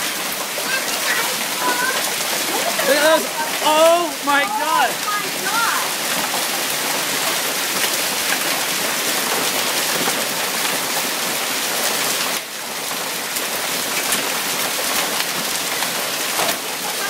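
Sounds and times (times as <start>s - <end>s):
hailstones striking surfaces: 0.0s - 17.0s
heavy rain hissing: 0.0s - 17.0s.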